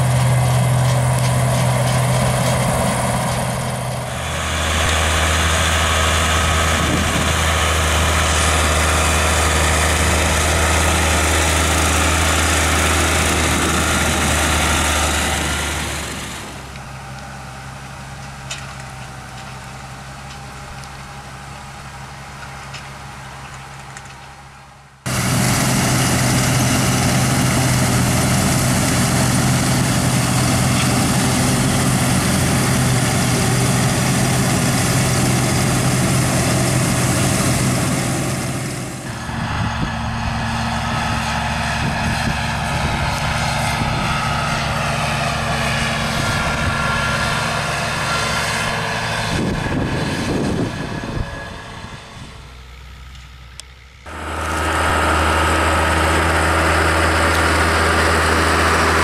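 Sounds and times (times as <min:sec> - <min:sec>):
diesel tractor engines running: 0:00.0 - 0:59.0
engine with high whine: 0:00.0 - 0:59.0.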